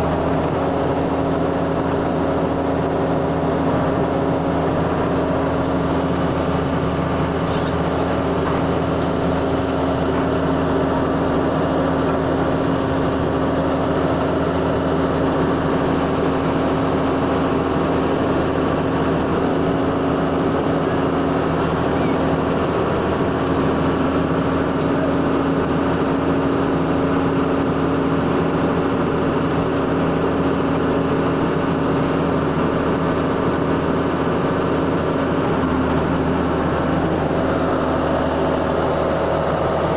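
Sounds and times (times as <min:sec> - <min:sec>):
engine-driven earth drill running: 0:00.0 - 0:39.9.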